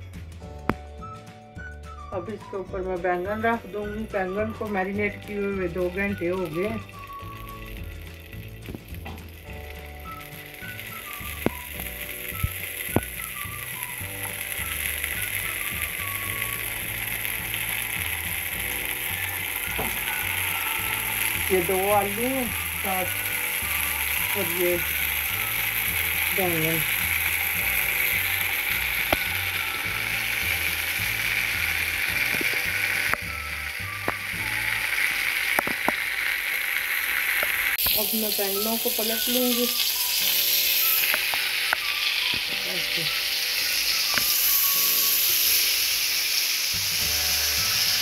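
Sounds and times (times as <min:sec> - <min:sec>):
vegetables sizzling in oil: 0:02.0 - 0:48.0.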